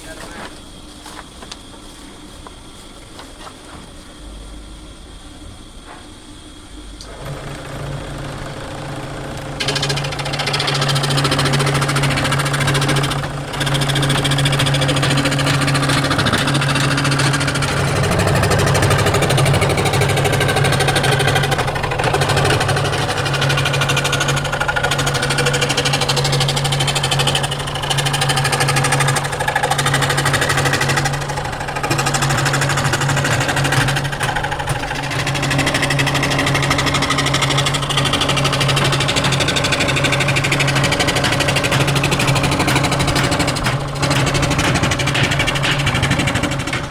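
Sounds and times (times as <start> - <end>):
machine motor humming: 6.8 - 46.9
machine cutting wood: 7.0 - 46.9.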